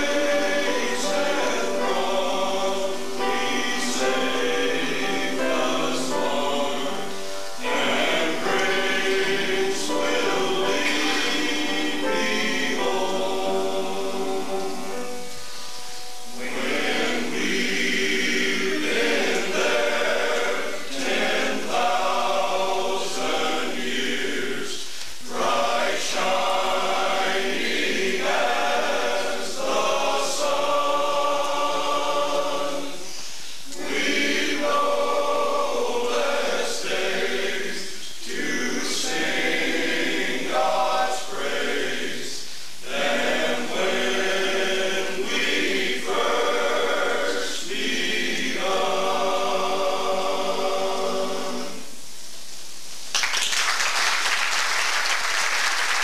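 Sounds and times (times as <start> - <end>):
men's choir singing: 0.0 - 52.0.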